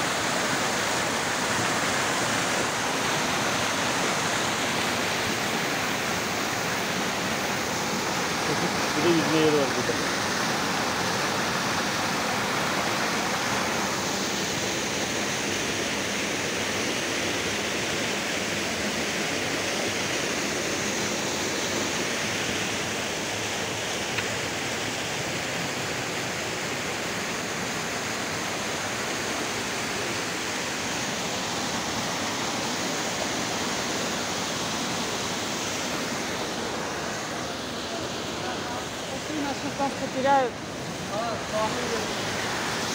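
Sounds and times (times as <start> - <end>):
stream pouring over waterfall: 0.0 - 42.9.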